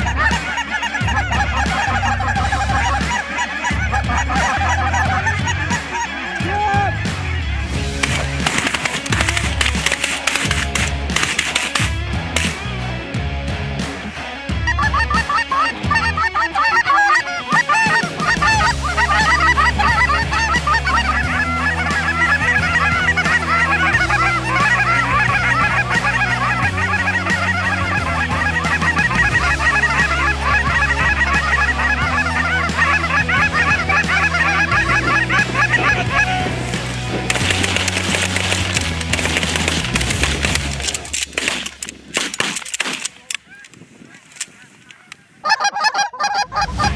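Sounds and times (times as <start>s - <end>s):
geese honking: 0.0s - 12.8s, 14.2s - 46.9s
background music with bass: 0.0s - 42.8s, 46.2s - 46.9s.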